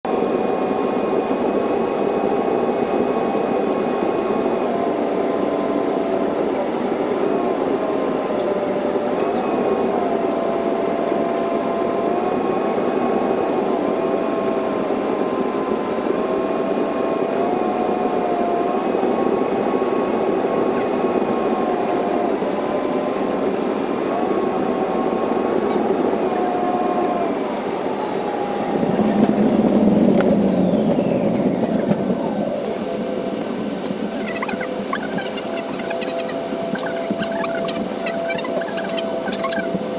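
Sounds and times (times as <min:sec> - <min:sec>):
jet engine and airflow roar: 0:00.0 - 0:39.9.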